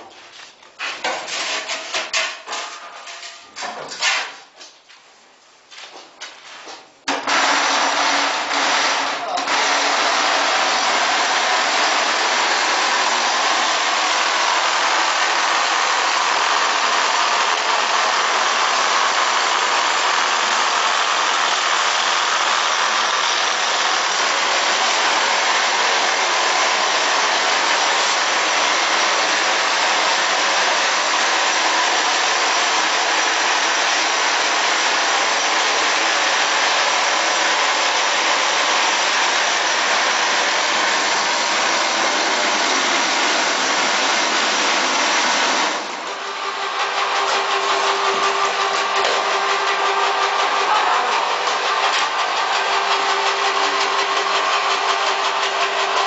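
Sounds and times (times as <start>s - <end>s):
plastering machine running: 0.0s - 4.4s, 7.0s - 56.0s.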